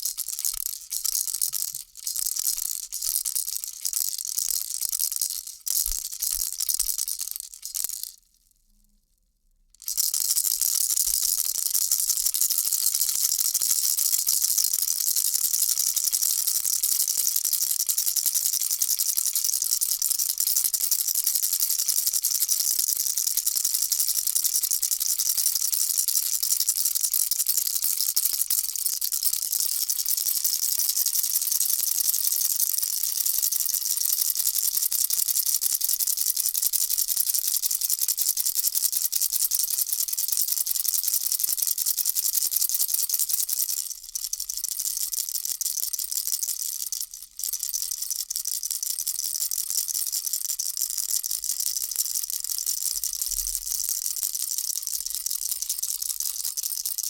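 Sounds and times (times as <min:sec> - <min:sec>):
baby rattle shaking: 0:00.0 - 0:08.2, 0:09.8 - 0:57.0.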